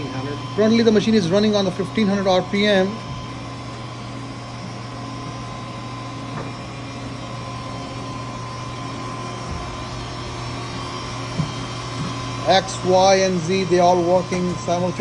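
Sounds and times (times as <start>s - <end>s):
machine hum: 0.0s - 15.0s
thin whine: 0.0s - 15.0s.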